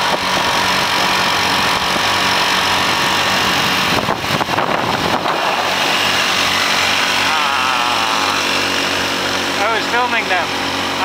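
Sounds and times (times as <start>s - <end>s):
wind on microphone: 0.0s - 9.5s
scooter engines running: 0.0s - 11.0s.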